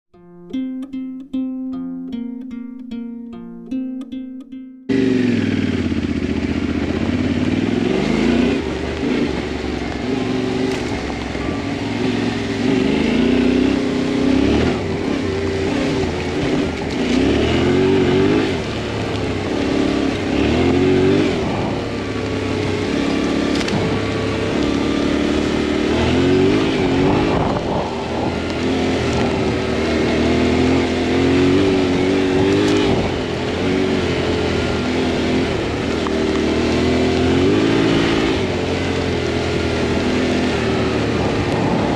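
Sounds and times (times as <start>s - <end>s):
motorcycle engine revving: 4.9s - 41.9s.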